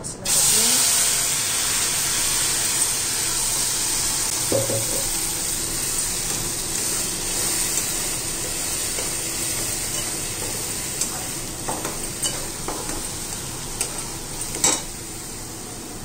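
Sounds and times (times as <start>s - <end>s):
paste sizzling in hot oil: 0.3s - 16.0s.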